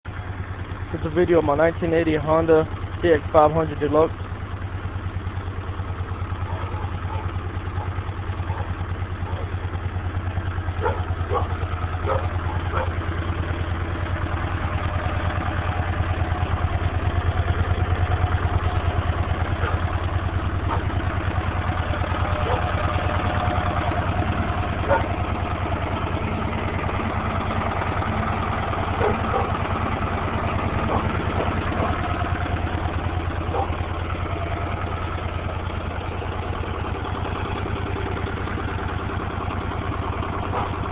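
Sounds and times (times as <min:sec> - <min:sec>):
motorcycle engine idling: 0:00.1 - 0:40.9.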